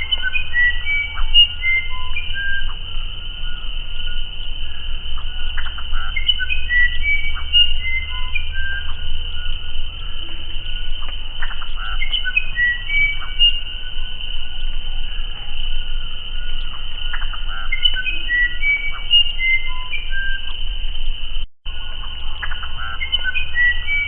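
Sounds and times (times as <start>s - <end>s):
bird whistling flute-like notes: 0.0s - 20.8s, 21.7s - 24.0s
low rumble: 0.0s - 23.9s
high insect drone: 0.0s - 24.0s.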